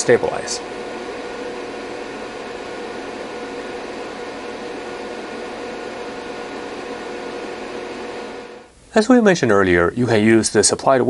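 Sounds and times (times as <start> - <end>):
cooling fans whirring: 0.0 - 11.0
faint steady hum: 0.0 - 11.0.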